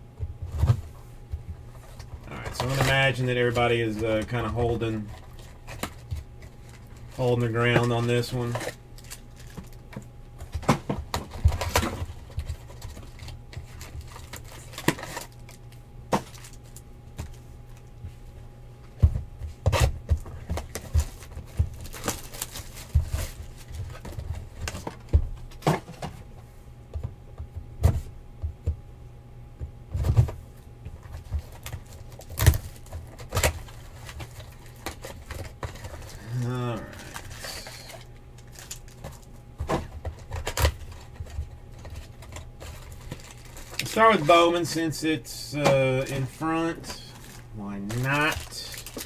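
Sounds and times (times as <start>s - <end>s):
steady low hum: 0.0s - 49.0s
hands handling foil packs: 1.7s - 18.0s, 19.5s - 26.2s, 30.0s - 49.0s.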